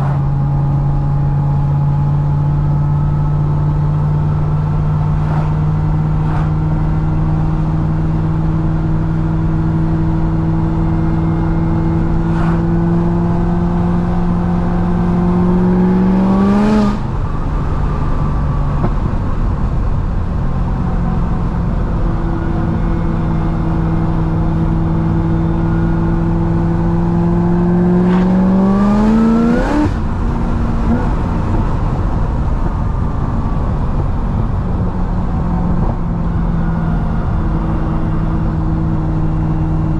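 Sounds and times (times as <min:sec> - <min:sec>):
car engine revving: 0:00.0 - 0:20.4, 0:21.1 - 0:39.9.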